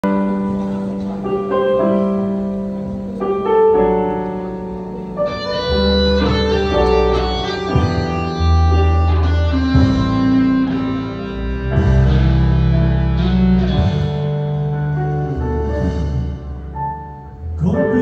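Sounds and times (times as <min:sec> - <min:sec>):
bass guitar: 0:00.0 - 0:18.0
electric guitar: 0:00.0 - 0:18.0
keyboard chords: 0:00.0 - 0:18.0.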